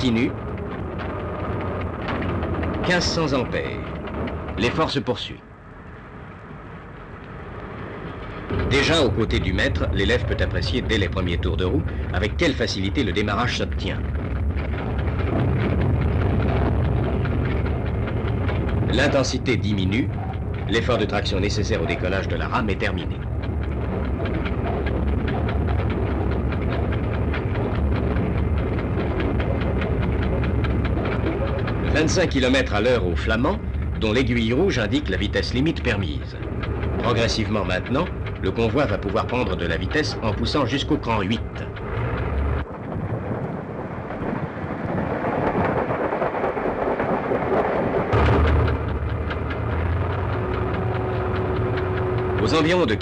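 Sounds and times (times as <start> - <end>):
diesel locomotive rumbling: 0.0 - 53.0
fast irregular clicking: 0.0 - 53.0
low engine hum: 0.0 - 53.0.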